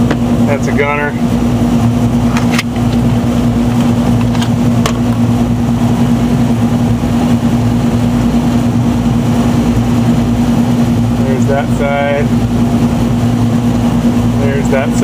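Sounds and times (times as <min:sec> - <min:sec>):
air conditioning hum: 0:00.0 - 0:15.0.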